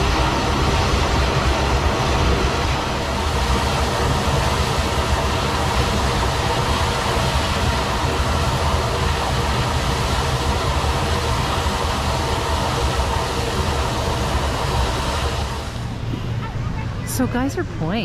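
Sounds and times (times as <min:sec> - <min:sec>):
geyser water jetting: 0:00.0 - 0:15.8
strong low rumble: 0:00.0 - 0:17.0.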